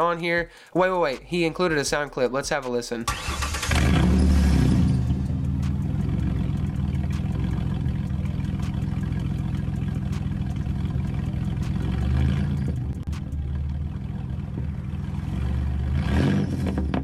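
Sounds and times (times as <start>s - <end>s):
car engine idling: 3.1s - 17.0s.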